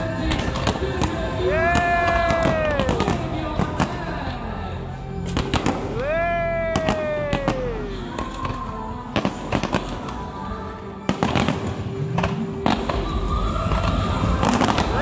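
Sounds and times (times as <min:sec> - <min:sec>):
fireworks bursting with sharp bangs: 0:00.0 - 0:04.5, 0:05.2 - 0:15.0
music playing: 0:00.0 - 0:15.0.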